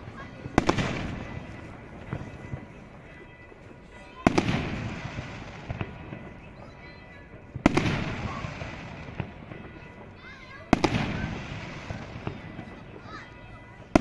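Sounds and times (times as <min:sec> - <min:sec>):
fireworks bursting with echo: 0:00.0 - 0:14.0.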